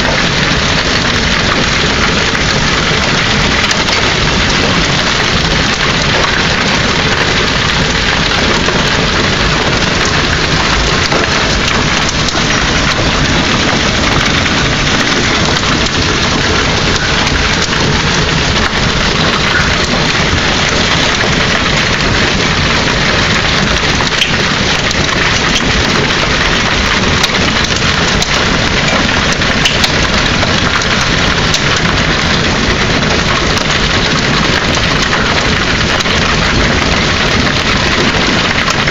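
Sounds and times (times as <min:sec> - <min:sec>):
hail clattering on surfaces: 0:00.0 - 0:38.9.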